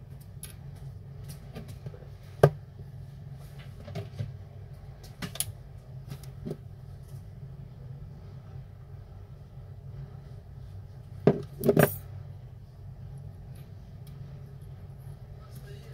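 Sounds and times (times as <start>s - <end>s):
low hum: 0.0s - 15.9s.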